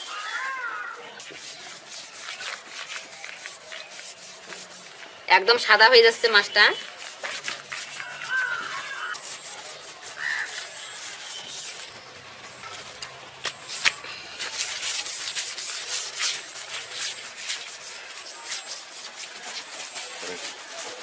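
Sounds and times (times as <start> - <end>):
leaf scrubbing fish skin: 0.0 - 5.0, 6.8 - 21.0.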